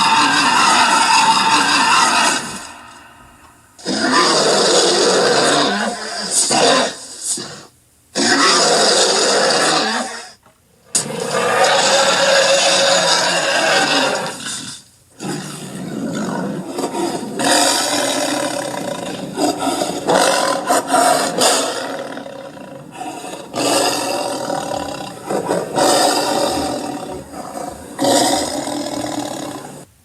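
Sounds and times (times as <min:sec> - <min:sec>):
bear roaring: 0:00.0 - 0:29.9.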